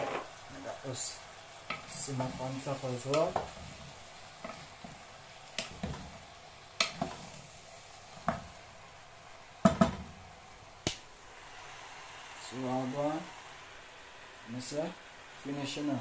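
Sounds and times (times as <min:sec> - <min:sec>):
vegetables sizzling: 0:00.0 - 0:16.0.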